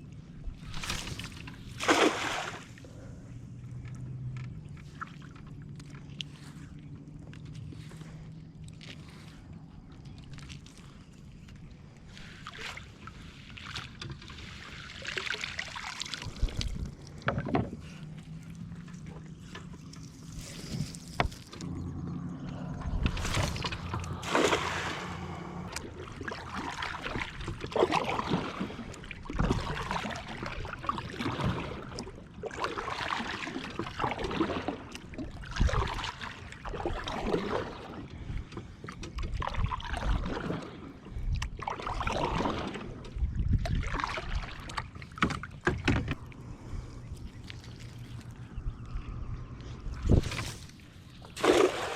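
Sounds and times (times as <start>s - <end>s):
paddle splashing through water: 0.6s - 3.1s, 3.8s - 21.8s, 22.5s - 48.5s, 49.9s - 51.9s.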